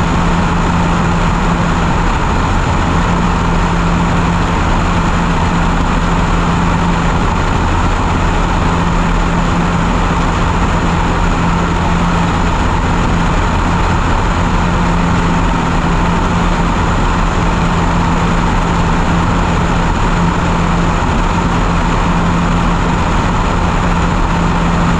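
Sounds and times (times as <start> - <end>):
light aircraft engine droning: 0.0 - 24.9
wind rush on microphone: 0.0 - 24.9.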